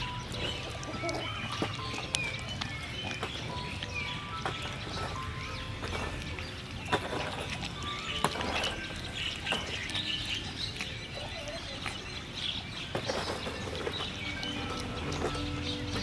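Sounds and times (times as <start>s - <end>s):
puppy chewing wet food: 0.0s - 16.0s.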